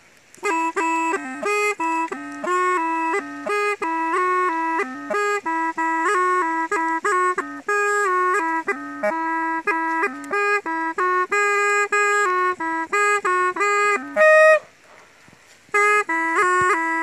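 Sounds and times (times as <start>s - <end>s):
bamboo pipe melody: 0.0s - 17.0s.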